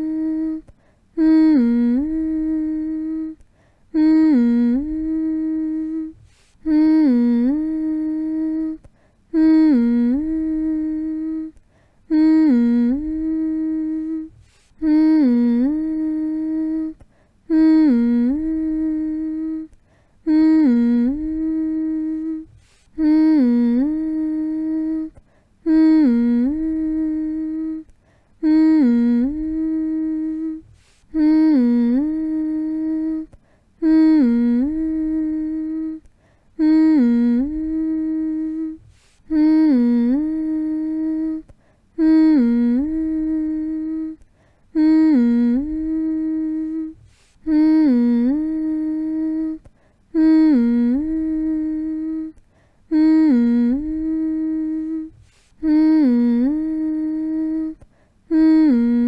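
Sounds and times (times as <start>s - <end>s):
person humming: 0.0s - 59.0s.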